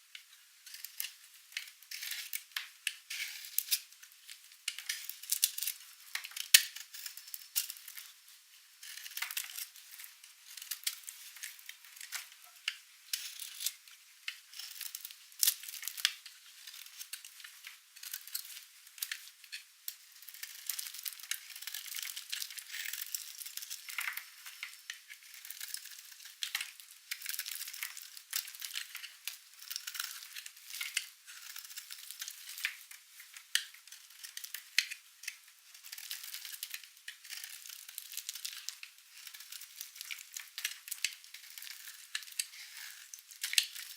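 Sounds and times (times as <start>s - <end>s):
dry soap crackling under blade: 0.1s - 8.2s, 8.8s - 43.9s.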